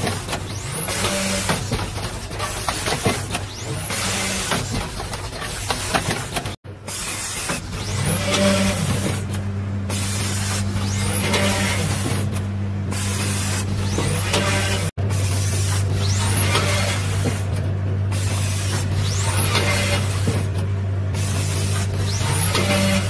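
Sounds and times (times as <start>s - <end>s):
machine mechanical hum: 0.0s - 23.0s.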